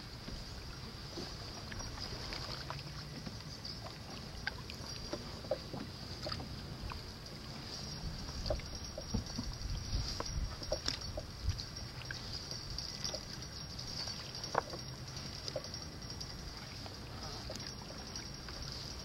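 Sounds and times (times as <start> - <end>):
low steady rumble: 0.0 - 19.0
paddle splashing in water: 0.2 - 15.7, 16.4 - 19.0.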